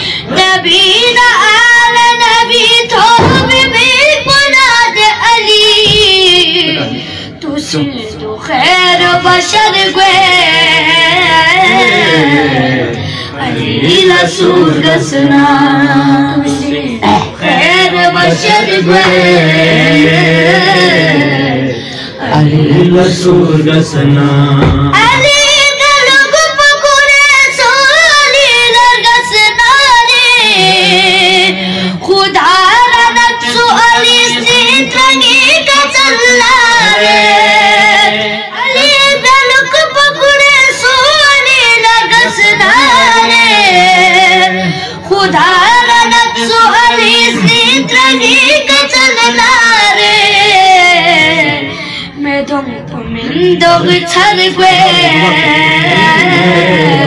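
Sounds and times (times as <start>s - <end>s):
boy singing devotional song: 0.0s - 57.0s.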